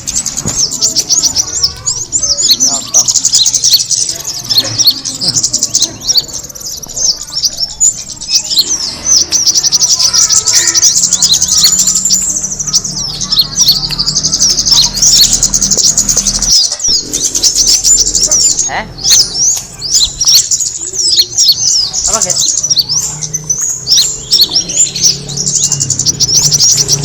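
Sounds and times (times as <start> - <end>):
birds chirping and twittering: 0.0 - 27.0.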